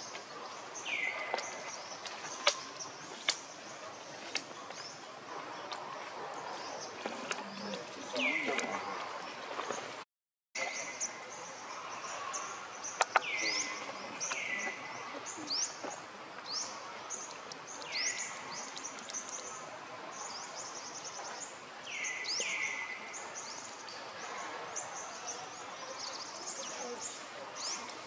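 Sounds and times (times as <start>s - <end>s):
birds chirping: 0.0s - 10.0s, 10.6s - 28.0s.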